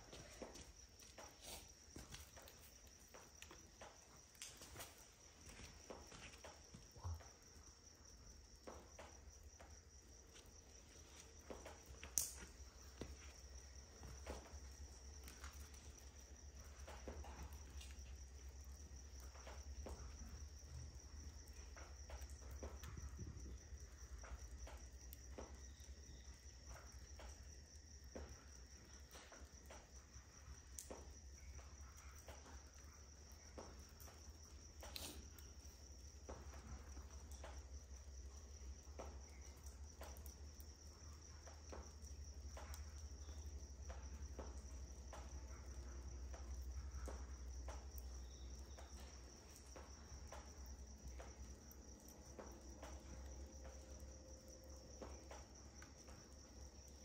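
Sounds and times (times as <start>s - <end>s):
high-pitched insect trill: 0.0s - 57.0s
wood fire crackling: 0.0s - 57.0s.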